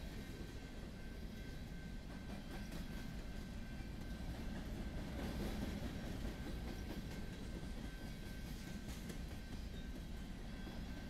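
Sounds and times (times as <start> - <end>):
steel wheels rumbling on rail: 0.0 - 11.0.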